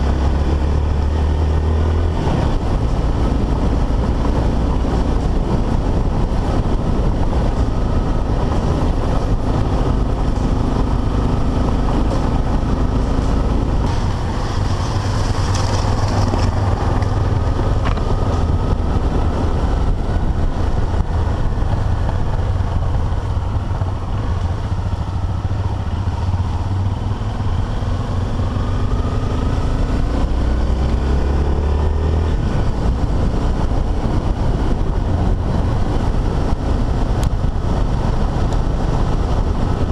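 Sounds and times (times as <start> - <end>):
motorcycle engine revving: 0.0 - 39.9
wind rumble on microphone: 0.0 - 39.9.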